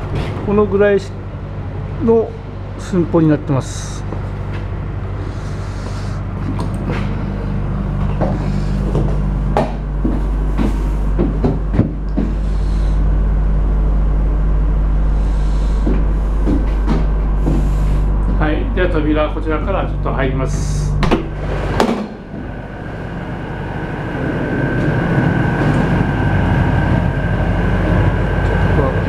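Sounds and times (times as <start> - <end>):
cooling unit humming: 0.0 - 29.0.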